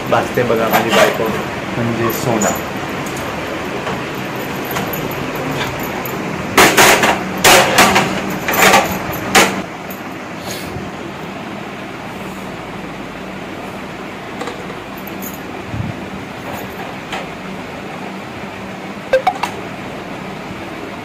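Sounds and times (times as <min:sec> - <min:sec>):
steady kitchen hum: 0:00.0 - 0:21.0.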